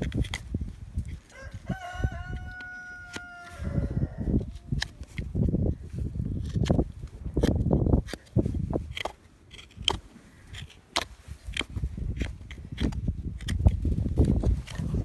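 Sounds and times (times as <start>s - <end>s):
knife cutting and scraping hoof: 0.0s - 15.0s.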